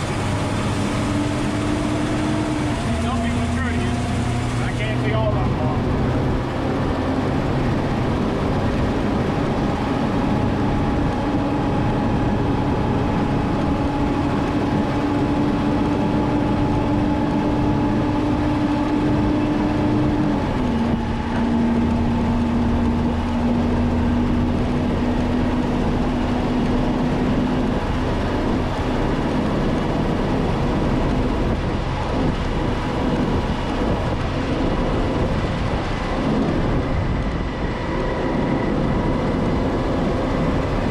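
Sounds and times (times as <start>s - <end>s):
diesel truck engine: 0.0s - 40.9s
road and wind noise: 0.0s - 40.9s.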